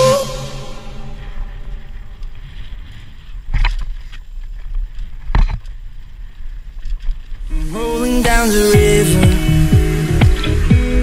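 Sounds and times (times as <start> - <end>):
bike tyres rumbling on dirt: 1.2 - 11.0.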